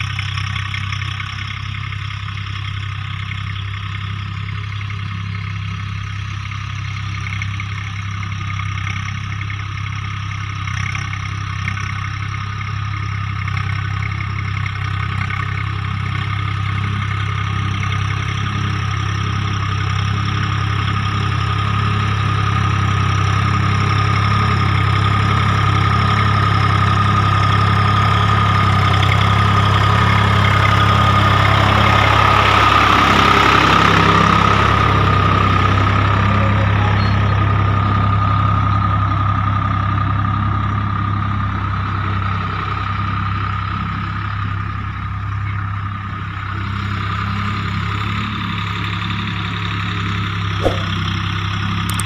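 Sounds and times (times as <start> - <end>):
tractor diesel engine droning: 0.0 - 52.0.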